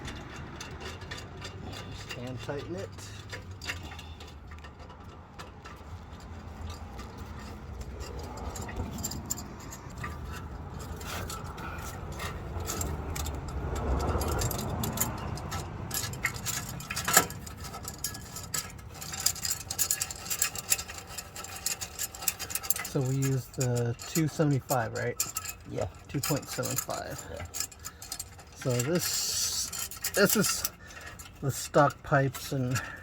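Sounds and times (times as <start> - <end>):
metal lock hardware clinking: 0.0 - 33.0.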